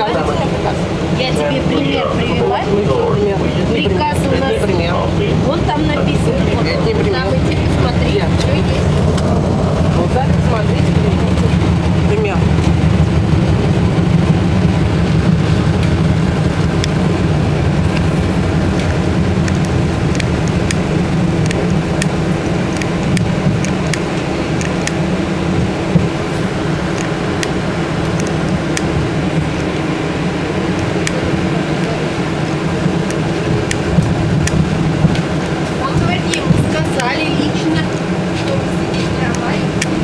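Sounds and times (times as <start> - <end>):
tram wheels humming and rumbling: 0.0 - 40.0.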